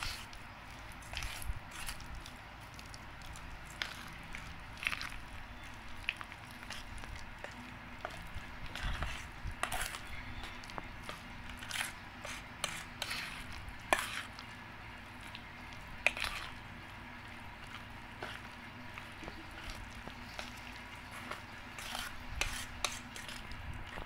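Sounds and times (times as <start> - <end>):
wet squishing of mashed food: 0.0 - 24.0.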